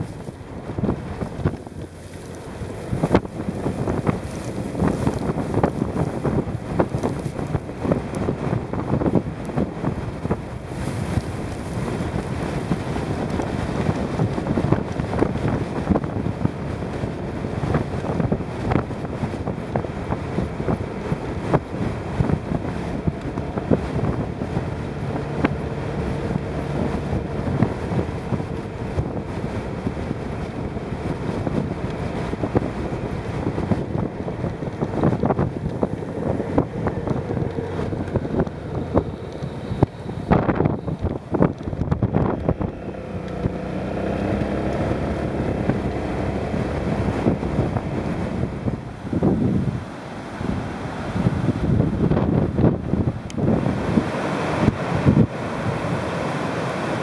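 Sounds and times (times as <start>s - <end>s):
motorcycle engine humming: 0.0s - 57.0s
wind buffeting microphone: 0.0s - 57.0s.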